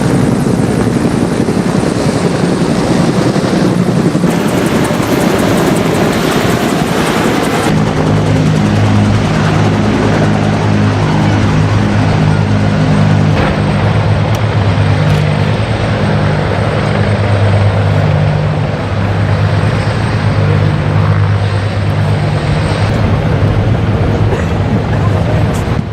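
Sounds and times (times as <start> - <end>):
helicopters flying: 0.0 - 25.9.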